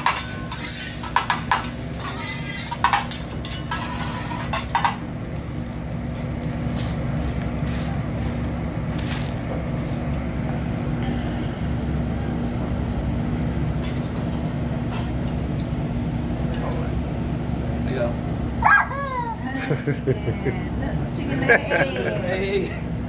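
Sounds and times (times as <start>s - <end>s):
ventilation fan droning: 0.0s - 23.0s.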